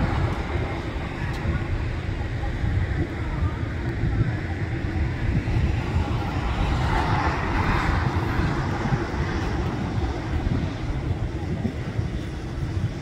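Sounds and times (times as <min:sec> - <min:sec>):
distant jet engines hissing: 0:00.0 - 0:13.0
wind rumbling on microphone: 0:00.0 - 0:13.0.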